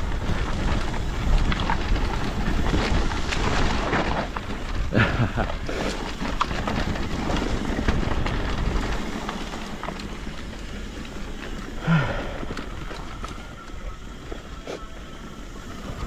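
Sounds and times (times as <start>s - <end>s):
bike knocks and rattles: 0.0s - 14.3s
bike tyres rolling over dirt: 0.0s - 16.0s.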